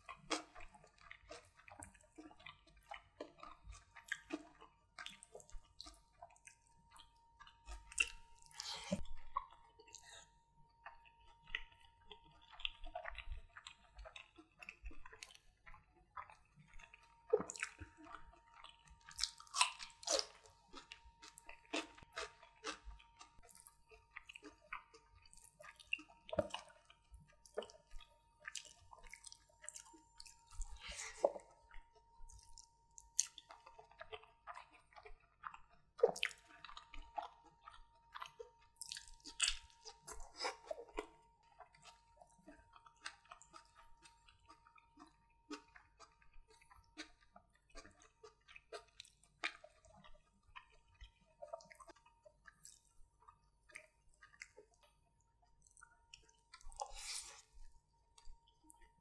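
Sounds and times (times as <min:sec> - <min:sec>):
close chewing with wet smacks: 0:00.0 - 0:59.0.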